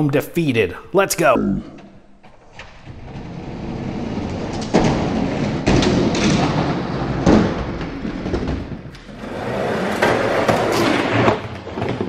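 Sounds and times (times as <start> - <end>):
loud clattering knocks: 2.2 - 12.0.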